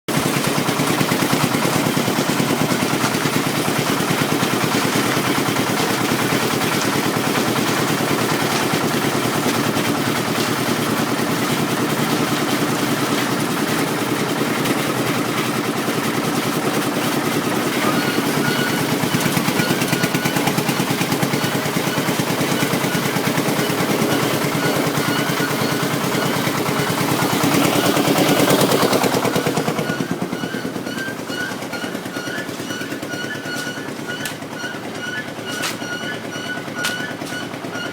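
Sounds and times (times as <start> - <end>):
concrete mixer machinery chugging: 0.1 - 37.9
mechanical clatter: 0.1 - 37.9.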